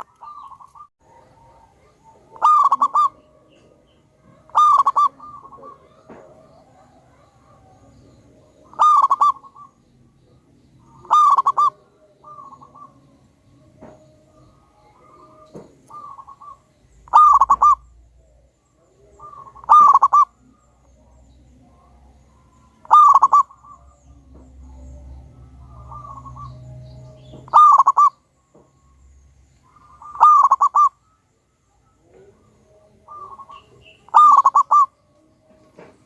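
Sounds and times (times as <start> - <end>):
dove cooing: 0.0 - 28.7, 29.6 - 31.2, 31.9 - 36.0.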